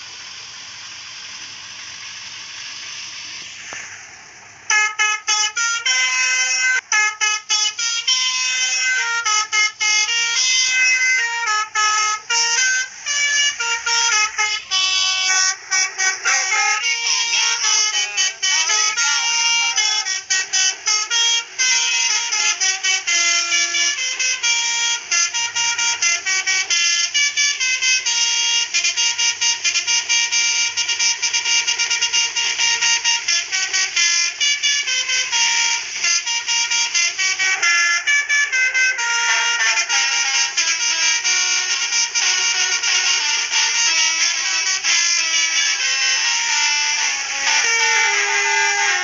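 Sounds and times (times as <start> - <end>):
horn playing fast melody: 3.4 - 49.0.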